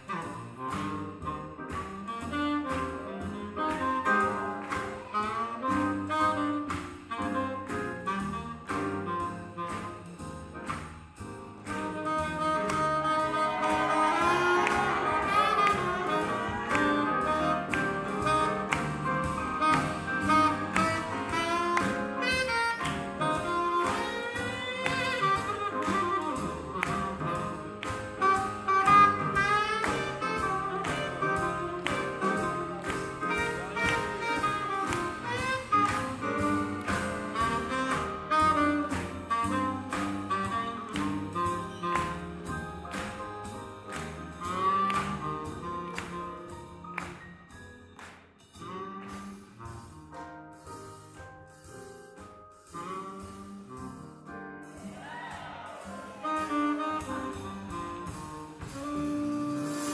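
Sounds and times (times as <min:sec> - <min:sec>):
saxophone melody: 0:00.0 - 0:10.6, 0:11.4 - 0:47.5, 0:48.5 - 0:51.3, 0:52.6 - 0:59.9
steady drum beat: 0:00.0 - 0:47.7, 0:52.6 - 0:59.9.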